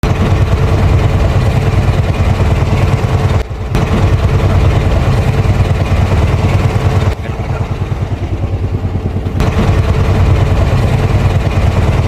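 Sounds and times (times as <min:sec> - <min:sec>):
engine deep rumble: 0:00.0 - 0:12.0.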